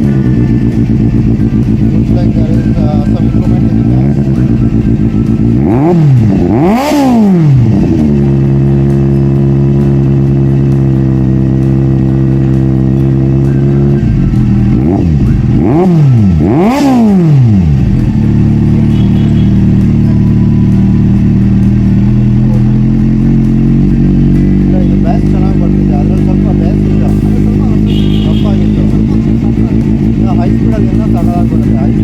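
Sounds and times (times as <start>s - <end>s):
motorcycle engine idling: 0.0s - 32.0s
motorcycle throttle blips: 0.0s - 32.0s.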